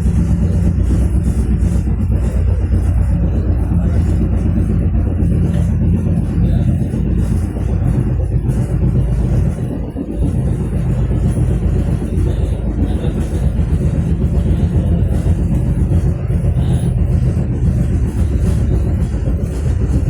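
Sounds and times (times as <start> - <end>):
faint engine hum: 0.0 - 20.0
moving vehicle rumble: 0.0 - 20.0.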